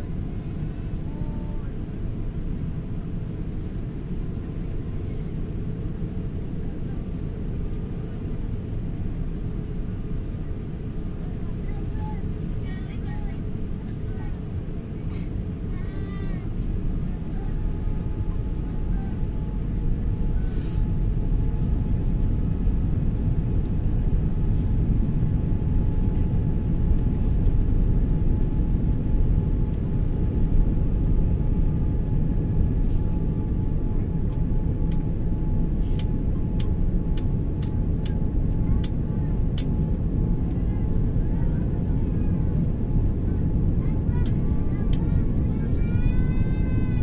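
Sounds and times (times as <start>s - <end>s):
engine and airflow rumble: 0.0s - 47.0s.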